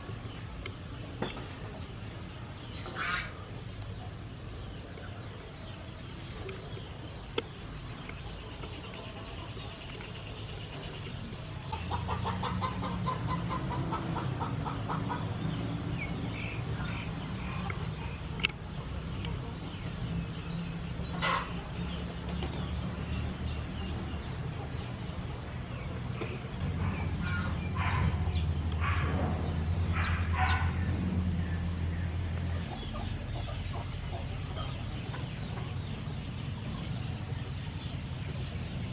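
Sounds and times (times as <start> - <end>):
chickens clucking: 0.0 - 31.5, 32.2 - 38.9.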